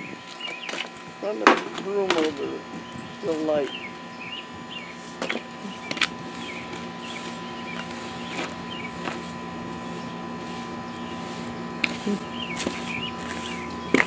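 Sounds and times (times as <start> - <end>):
broom scraping pavement: 0.3 - 3.8, 4.8 - 14.0.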